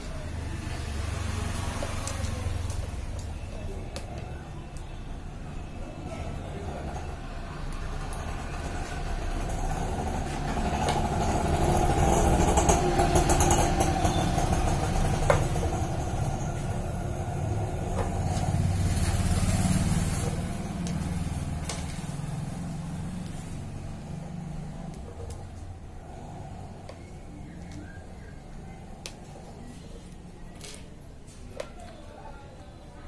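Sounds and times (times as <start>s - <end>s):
vehicle engine rumbling: 0.0s - 31.7s.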